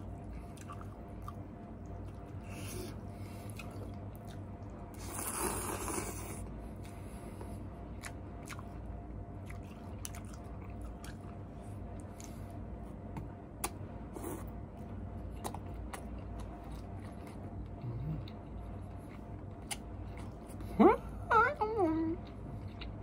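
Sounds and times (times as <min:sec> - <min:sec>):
person chewing noodles: 0:00.0 - 0:12.6, 0:13.6 - 0:14.6, 0:15.2 - 0:20.7, 0:22.2 - 0:23.0
steady low hum: 0:00.0 - 0:23.0.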